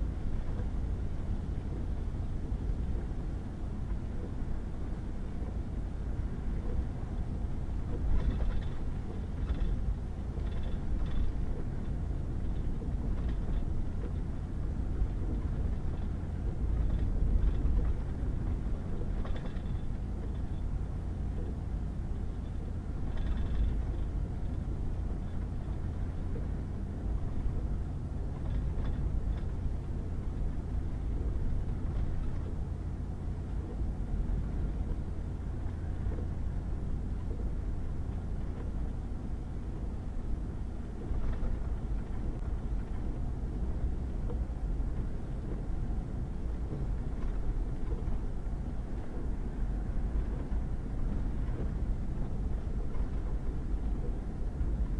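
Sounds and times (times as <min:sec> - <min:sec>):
truck engine and tyres rumbling: 0:00.0 - 0:54.9
light rattles: 0:06.4 - 0:54.9.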